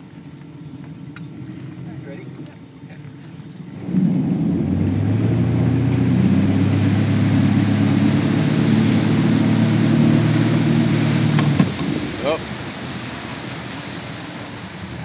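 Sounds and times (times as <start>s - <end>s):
boat engine at full throttle: 0.0s - 15.0s
water rushing and spraying: 0.0s - 15.0s.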